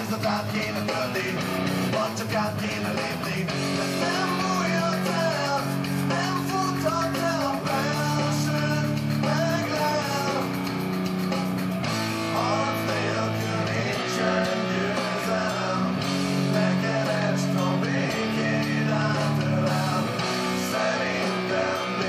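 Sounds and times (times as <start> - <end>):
guitar rock music: 0.0 - 22.0.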